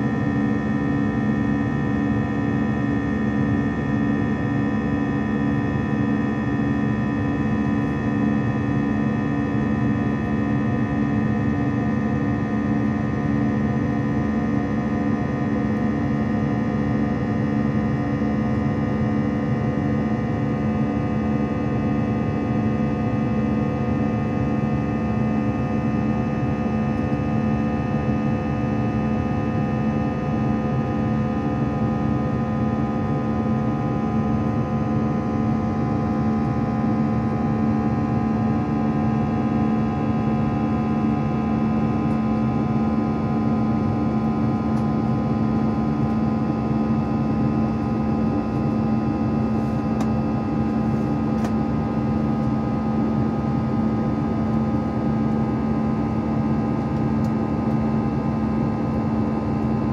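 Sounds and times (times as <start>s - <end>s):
jet engine buzz in cabin: 0.0s - 59.9s.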